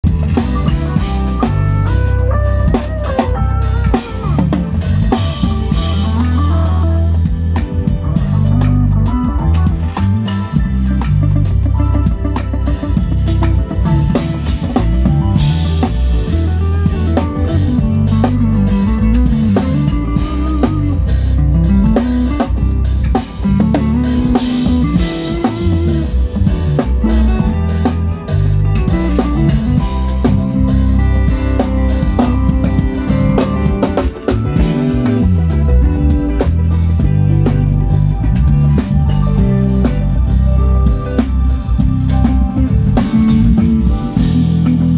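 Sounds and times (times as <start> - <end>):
band music with drums and guitar: 0.0 - 44.9
sliding bass line: 0.0 - 44.9.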